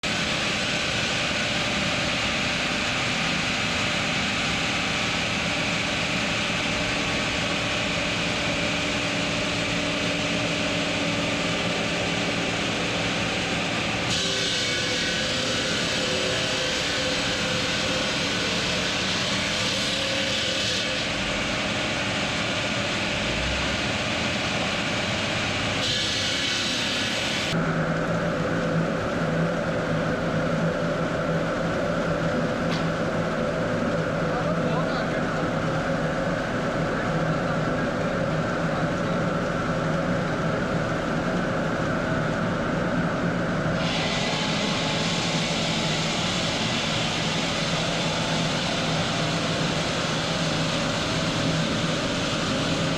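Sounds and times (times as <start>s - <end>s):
stone-cutting machinery roar: 0.0s - 52.9s.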